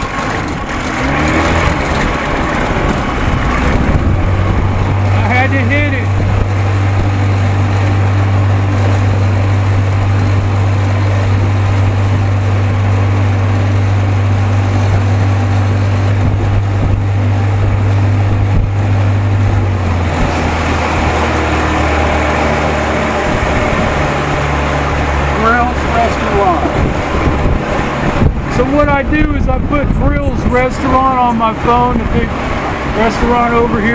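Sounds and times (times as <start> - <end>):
outboard motor running: 0.0 - 33.9
wind and water rushing: 0.0 - 33.9.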